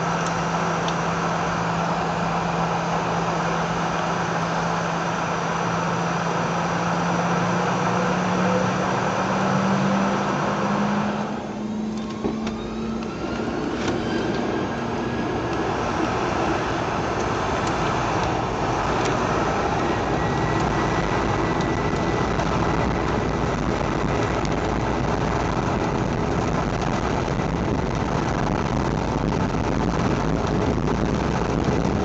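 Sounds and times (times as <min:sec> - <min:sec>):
jet engines humming in cabin: 0:00.0 - 0:32.0
jet engines spooling up whine: 0:00.0 - 0:32.0.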